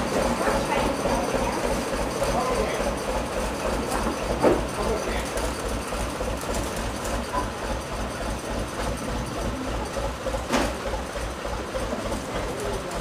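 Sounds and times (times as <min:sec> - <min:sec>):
steam train running: 0:00.0 - 0:13.0.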